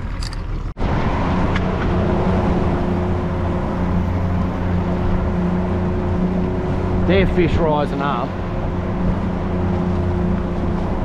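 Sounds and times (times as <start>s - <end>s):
outboard motor droning: 0.0s - 11.0s
water wash: 0.0s - 11.0s.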